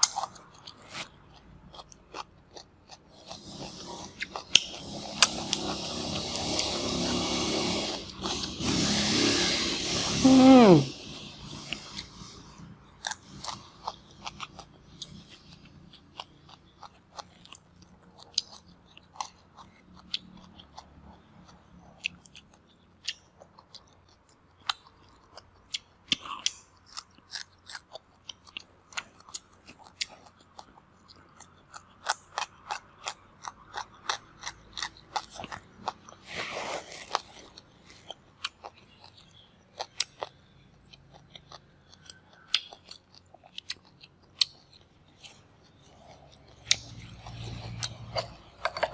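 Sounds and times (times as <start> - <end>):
chewing crunchy food: 0.0 - 48.9.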